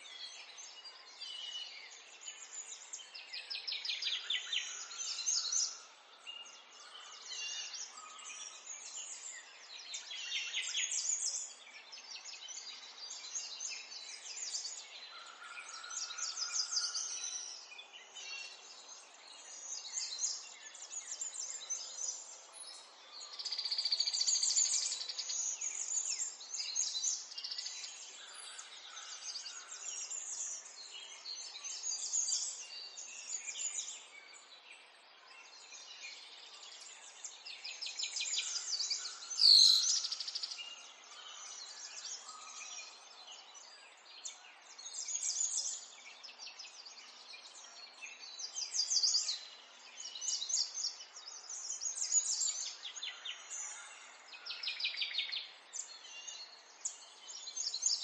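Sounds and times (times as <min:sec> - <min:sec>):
birds chirping and singing: 0:00.1 - 0:34.7, 0:35.3 - 0:58.0.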